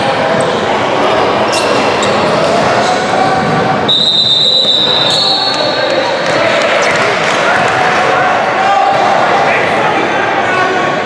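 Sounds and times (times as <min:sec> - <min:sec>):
players' noise in echoing hall: 0:00.0 - 0:11.0.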